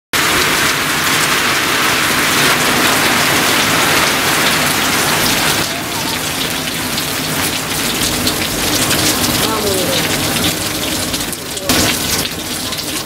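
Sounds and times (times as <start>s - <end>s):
rain splashing into puddles: 0.1s - 13.0s.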